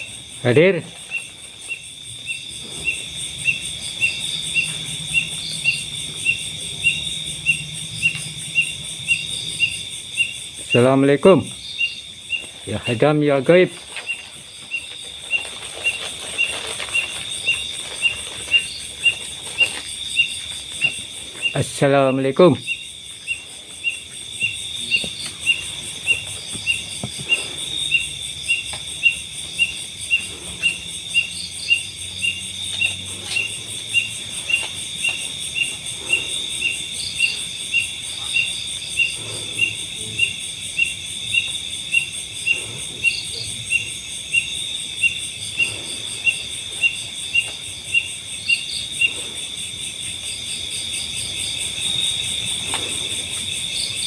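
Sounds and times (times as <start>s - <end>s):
short insect chirps: 0.0s - 49.4s
cricket chirping: 0.0s - 54.0s
high-pitched insect drone: 0.0s - 54.0s.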